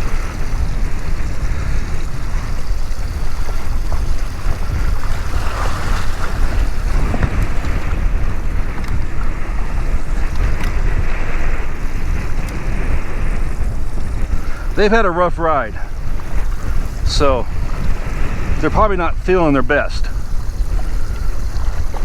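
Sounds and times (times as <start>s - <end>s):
choppy waves washing: 0.0s - 22.0s
strong wind buffeting microphone: 0.0s - 22.0s.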